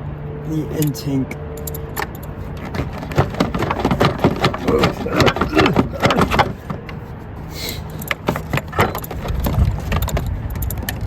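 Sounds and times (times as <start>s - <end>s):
tools clicking and scraping: 1.6s - 11.0s.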